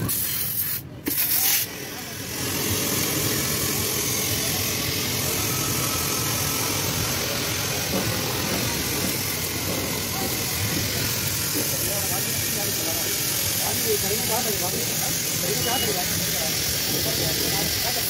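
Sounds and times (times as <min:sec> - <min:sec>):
air compressor running: 0:00.0 - 0:18.0
compressed air hissing: 0:00.0 - 0:18.0
short air blasts: 0:00.0 - 0:18.0.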